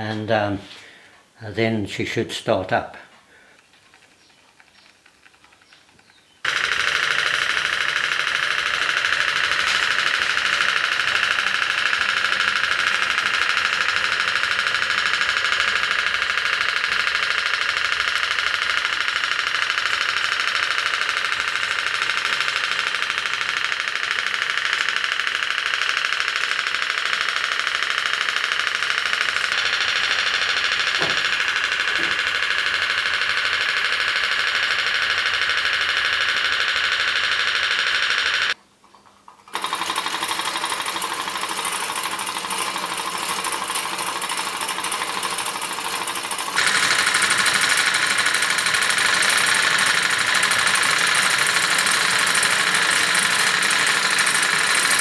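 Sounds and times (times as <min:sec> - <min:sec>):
toy steam engine popping buzz: 0:06.4 - 0:38.6, 0:39.5 - 0:55.0.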